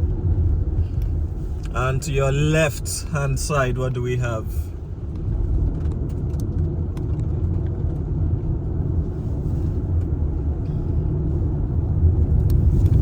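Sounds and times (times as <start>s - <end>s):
car driving heard from inside: 0.0s - 13.0s.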